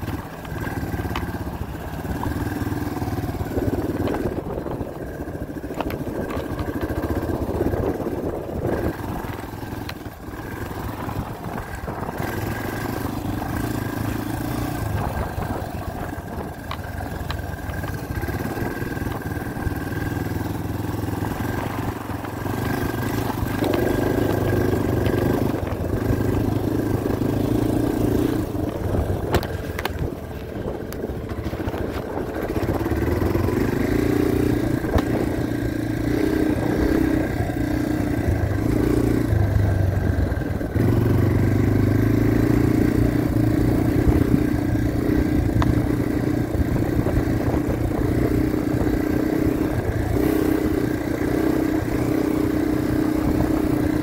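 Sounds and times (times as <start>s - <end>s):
dirt bike engine revving: 6.1s - 54.0s.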